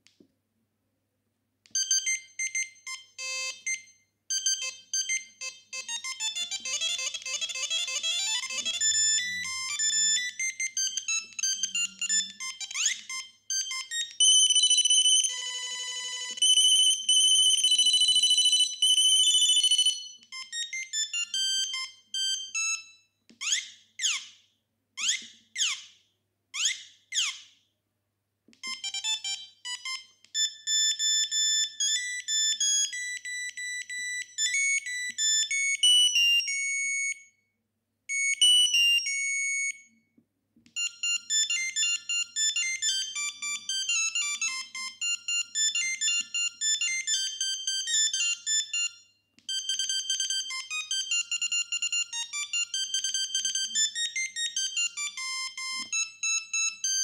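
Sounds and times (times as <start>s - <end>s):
phone ringtone beeping melodies: 1.8s - 23.0s, 28.6s - 37.3s, 38.1s - 40.0s, 40.8s - 57.0s.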